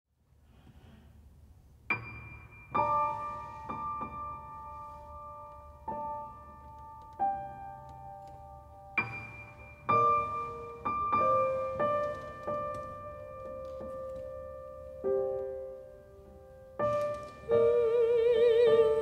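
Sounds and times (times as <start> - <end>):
slow piano notes and chords: 1.8 - 19.0.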